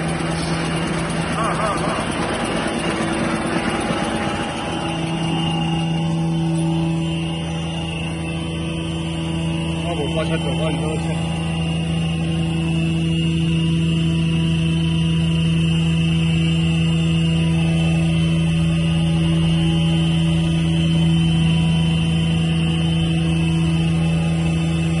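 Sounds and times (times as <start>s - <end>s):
high machine whine: 0.0s - 25.0s
machine mechanical hum: 0.0s - 25.0s.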